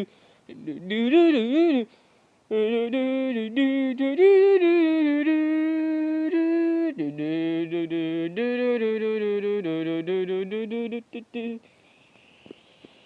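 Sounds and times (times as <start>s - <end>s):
person humming a tune: 0.0s - 13.0s.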